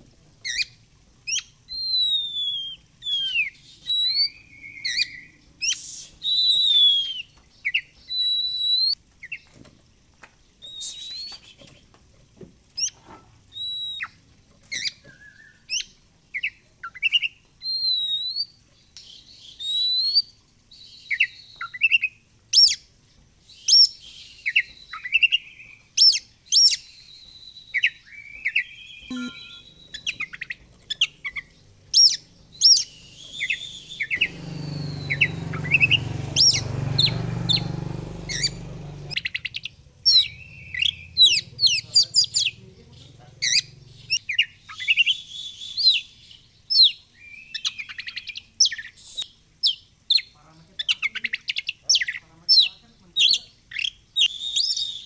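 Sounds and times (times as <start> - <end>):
bird singing chirps and trills: 0.4 - 9.6, 10.5 - 11.9, 12.8 - 22.9, 23.5 - 55.0.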